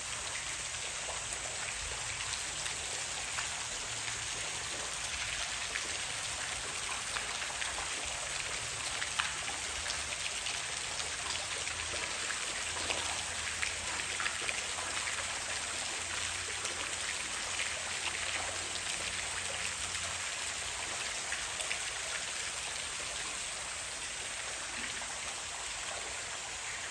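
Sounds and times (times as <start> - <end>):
falling water hiss: 0.0 - 26.9
water patters and drips: 0.0 - 26.9.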